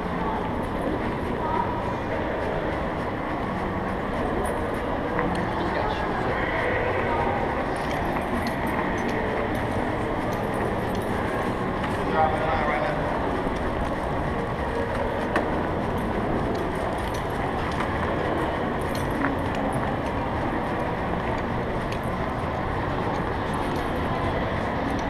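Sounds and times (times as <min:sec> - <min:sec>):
busy shopping mall noise: 0:00.0 - 0:25.0
metal chain leash clinking: 0:03.9 - 0:25.0.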